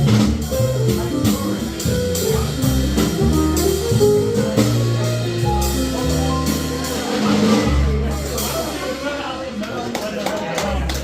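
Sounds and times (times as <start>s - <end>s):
jazz trio playing: 0.0s - 9.6s.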